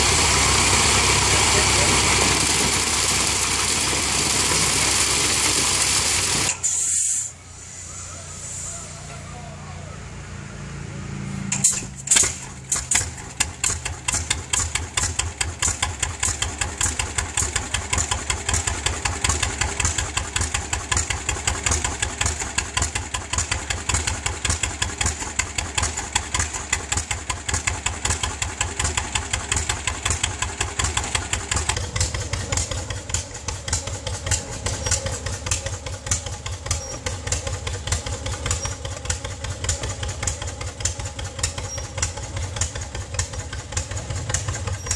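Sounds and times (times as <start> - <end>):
tractor engine popping: 0.0 - 6.7, 11.5 - 44.9.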